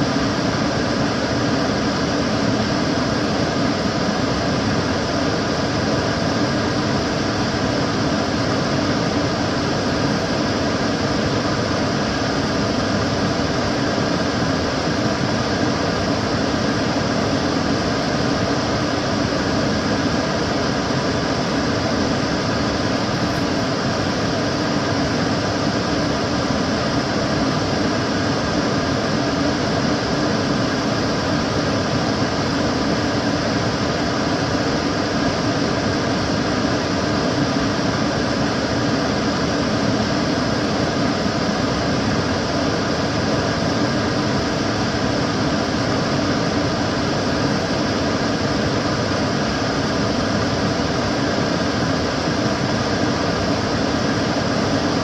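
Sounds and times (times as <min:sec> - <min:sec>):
extractor fan running: 0:00.0 - 0:55.0.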